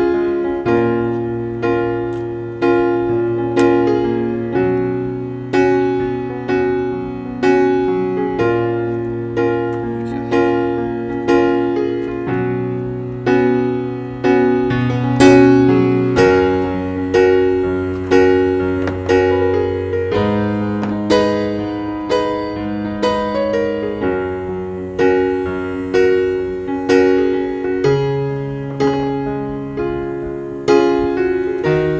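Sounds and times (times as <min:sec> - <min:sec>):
slow calm piano music: 0:00.0 - 0:31.9.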